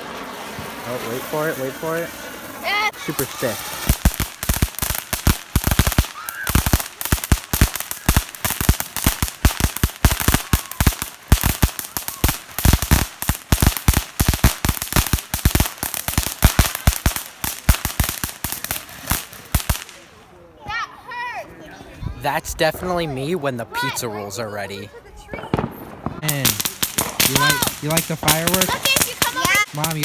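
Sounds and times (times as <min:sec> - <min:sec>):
firecrackers banging: 0:00.0 - 0:20.1, 0:25.3 - 0:30.0.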